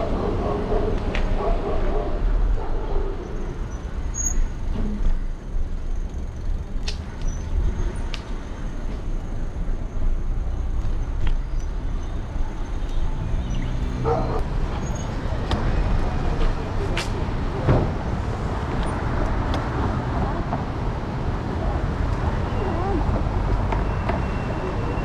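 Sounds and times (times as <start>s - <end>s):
road rumble: 0.0s - 25.0s.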